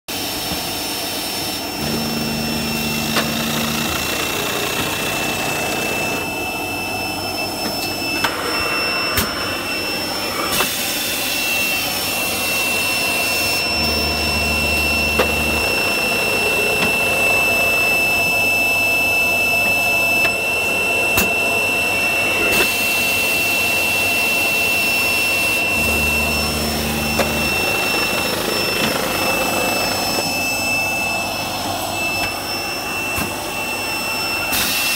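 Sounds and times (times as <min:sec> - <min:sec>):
air system hiss and whine: 0:00.1 - 0:34.9.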